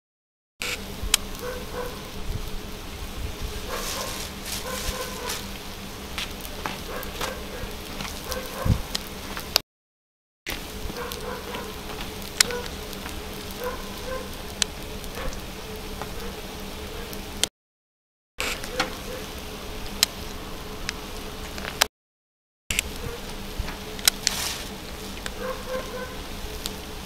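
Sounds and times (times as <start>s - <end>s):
food sizzling and popping: 0.6s - 9.6s, 10.5s - 17.5s, 18.4s - 21.9s, 22.7s - 27.0s.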